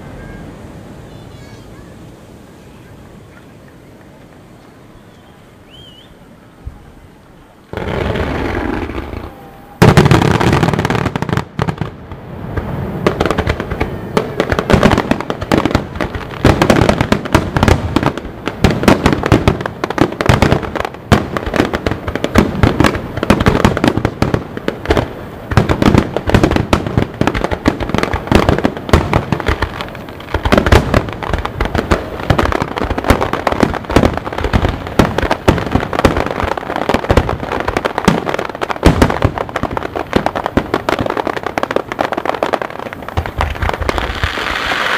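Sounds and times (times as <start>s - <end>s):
fireworks bursting: 7.6s - 44.9s.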